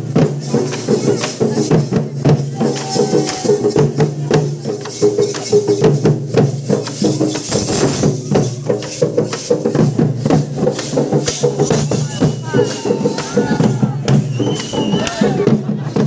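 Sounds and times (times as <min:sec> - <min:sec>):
frame drums beaten fast: 0:00.0 - 0:16.0.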